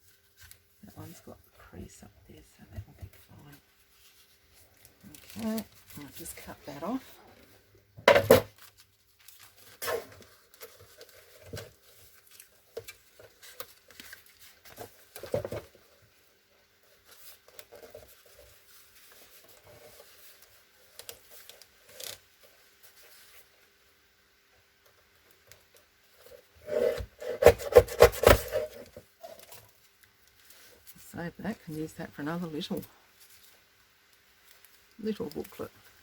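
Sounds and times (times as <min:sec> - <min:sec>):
rustling craft materials: 0:00.0 - 0:36.0.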